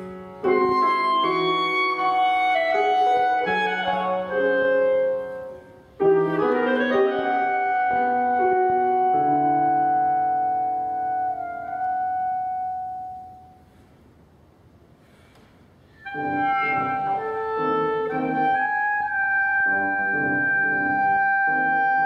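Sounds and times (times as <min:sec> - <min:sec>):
clarinet: 0:00.0 - 0:13.7, 0:15.9 - 0:22.0
grand piano: 0:00.0 - 0:22.0.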